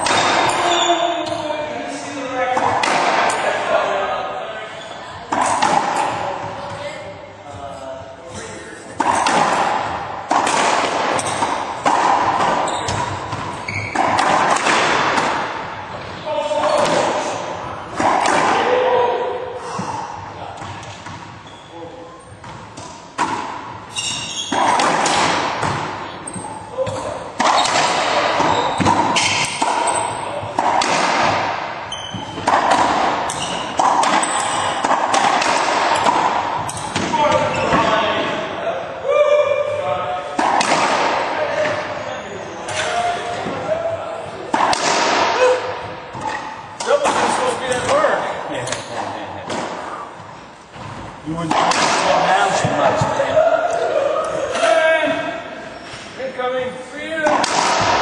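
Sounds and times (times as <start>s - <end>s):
ball hitting court walls: 0.0s - 1.5s, 2.4s - 3.8s, 5.1s - 7.0s, 8.9s - 21.4s, 22.3s - 38.6s, 39.8s - 42.0s, 42.6s - 54.9s, 57.2s - 58.0s
racquet hitting ball: 0.0s - 3.9s, 5.1s - 7.0s, 8.8s - 21.5s, 22.3s - 38.7s, 39.7s - 56.2s, 57.2s - 58.0s.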